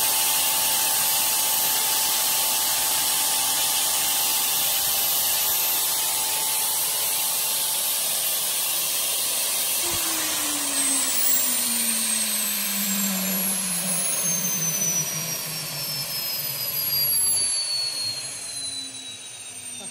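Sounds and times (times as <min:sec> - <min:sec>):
turbine whine: 0:00.0 - 0:19.9.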